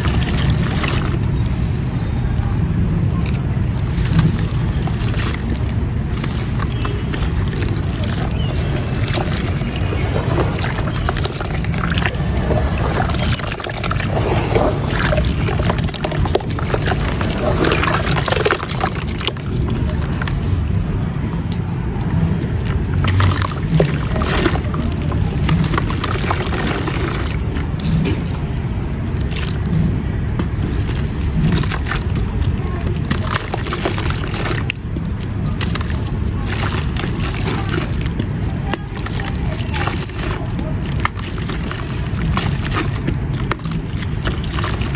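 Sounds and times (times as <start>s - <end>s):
gritty crackling and crunching: 0.0s - 44.9s
water sloshing: 0.0s - 44.9s.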